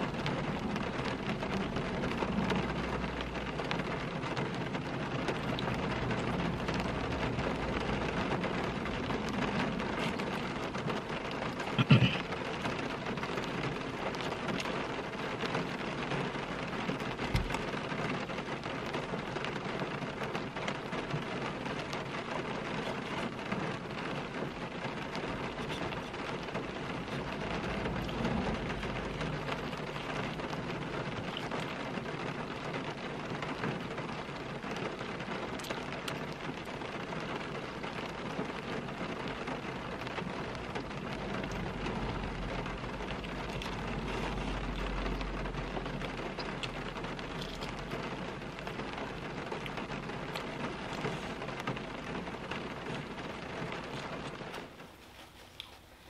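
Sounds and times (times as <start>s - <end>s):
rain on a car roof: 0.0s - 56.0s.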